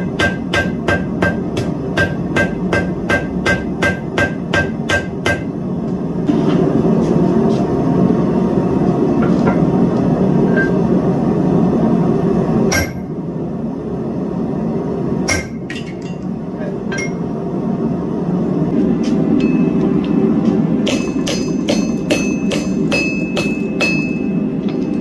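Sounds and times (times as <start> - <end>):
low rumble of shop noise: 0.0 - 25.0.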